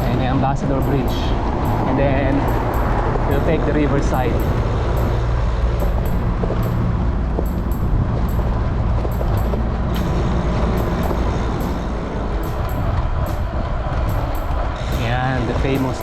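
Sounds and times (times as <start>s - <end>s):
road noise: 0.0s - 16.0s
wind rumble on microphone: 0.0s - 16.0s.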